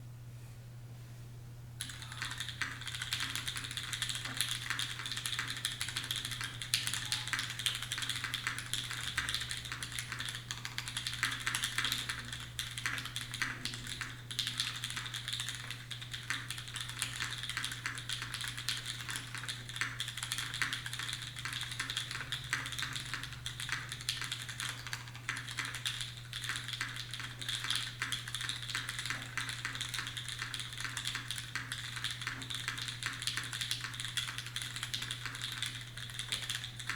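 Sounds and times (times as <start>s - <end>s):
mechanical keyboard typing: 1.8s - 36.9s.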